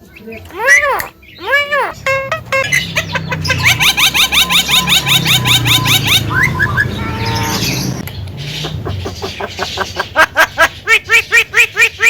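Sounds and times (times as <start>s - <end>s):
bird singing varied song: 0.0s - 12.0s.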